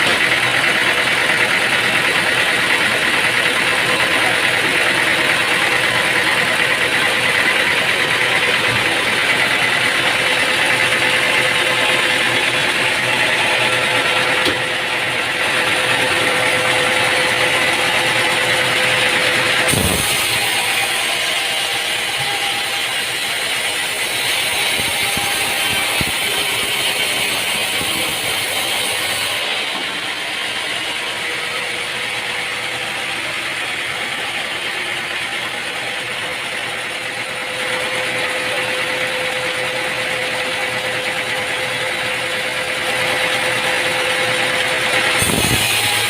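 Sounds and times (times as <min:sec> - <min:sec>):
machinery hum: 0:00.0 - 0:46.0
machinery running loudly: 0:00.0 - 0:46.0.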